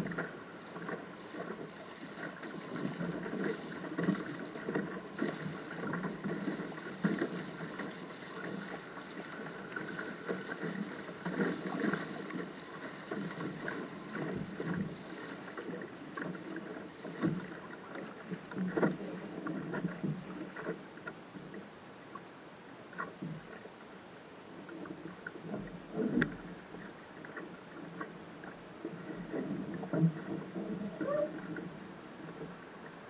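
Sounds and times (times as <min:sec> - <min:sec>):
waves slapping against a bow: 0:00.0 - 0:22.3, 0:22.9 - 0:23.9, 0:24.5 - 0:33.0
water rushing along a hull: 0:00.0 - 0:33.0.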